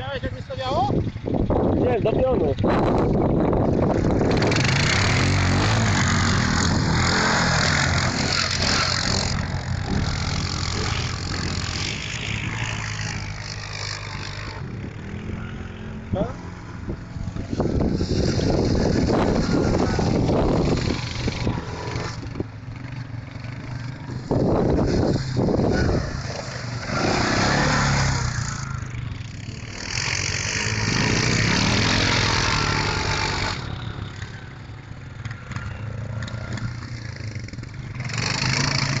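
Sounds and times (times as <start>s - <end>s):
quad bike engines revving: 0.0s - 39.0s.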